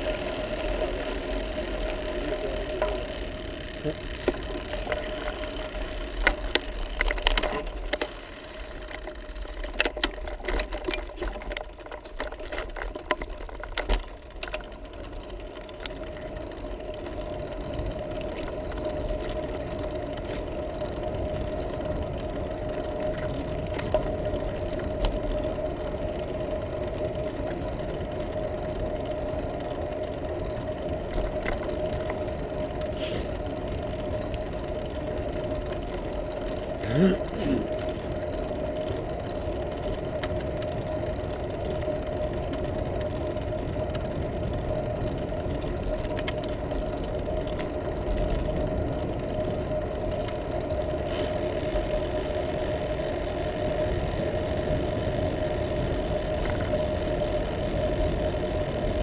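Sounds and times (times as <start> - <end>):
bicycle rattling on rough track: 0.0 - 59.0
tyres rolling on asphalt: 0.0 - 59.0.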